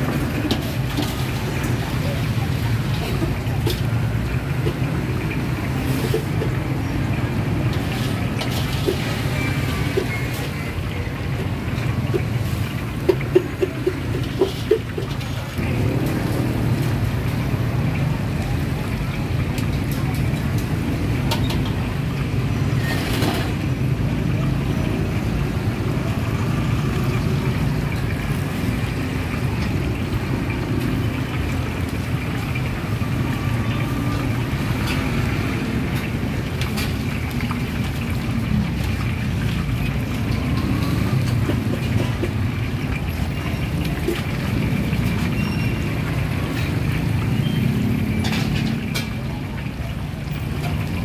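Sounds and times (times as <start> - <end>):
oil bubbling and sizzling: 0.0 - 51.0.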